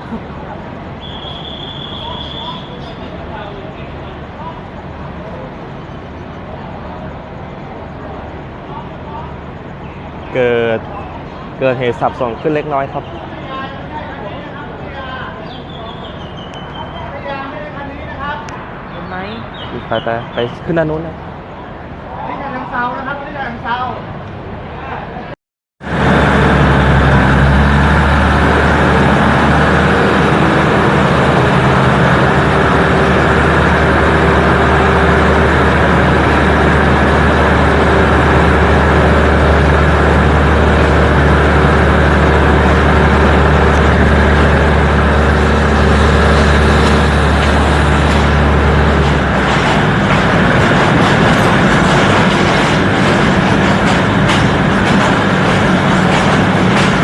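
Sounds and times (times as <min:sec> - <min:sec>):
diesel train engine humming: 0:00.0 - 0:25.2, 0:25.8 - 0:57.0
train running noise: 0:00.0 - 0:57.0.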